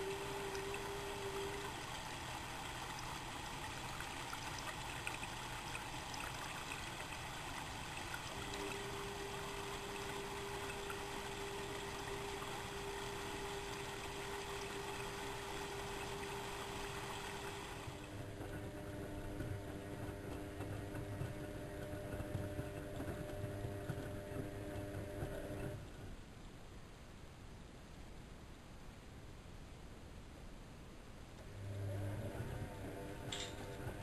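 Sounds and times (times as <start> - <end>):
water rushing into washing machine: 0.0 - 25.8, 31.5 - 34.0.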